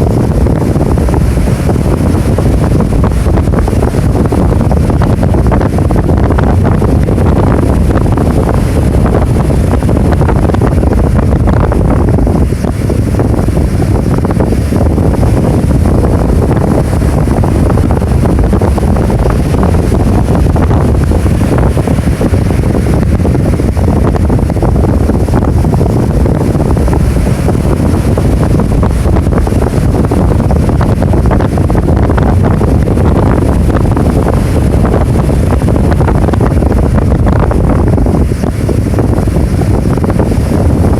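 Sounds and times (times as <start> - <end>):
rough surf: 0.0 - 40.9
wind blasting the microphone: 0.0 - 40.9.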